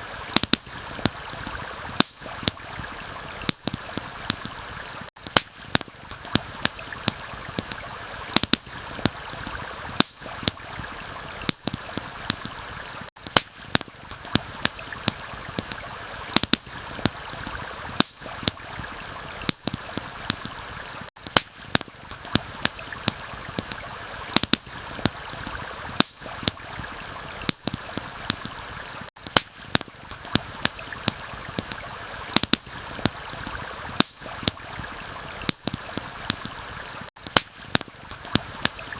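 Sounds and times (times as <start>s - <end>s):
stream rushing: 0.0s - 21.1s, 21.7s - 29.1s, 29.7s - 37.1s
campfire crackling and popping: 0.0s - 38.9s.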